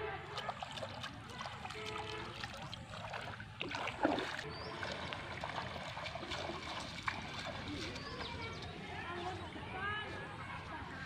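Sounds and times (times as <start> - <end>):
feet splashing through muddy water: 0.0 - 11.0.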